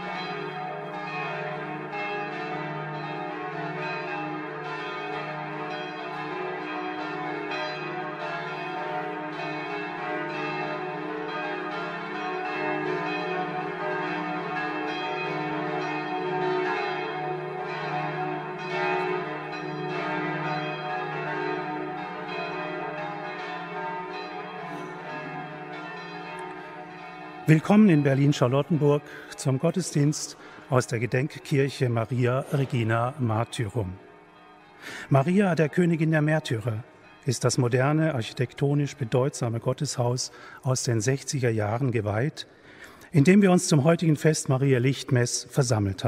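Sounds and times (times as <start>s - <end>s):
church bells ringing: 0.0s - 46.0s.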